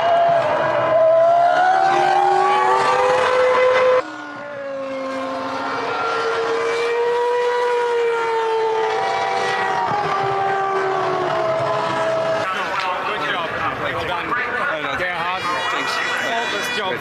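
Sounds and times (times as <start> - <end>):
racing car engines running: 0.0 - 15.1.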